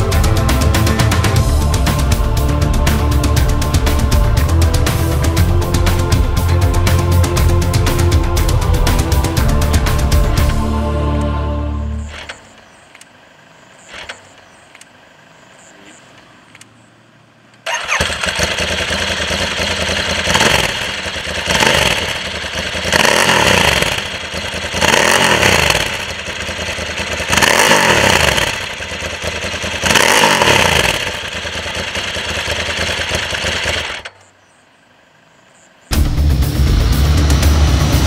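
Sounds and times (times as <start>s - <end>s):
motorcycle engine revving: 0.0s - 34.3s, 35.9s - 38.0s.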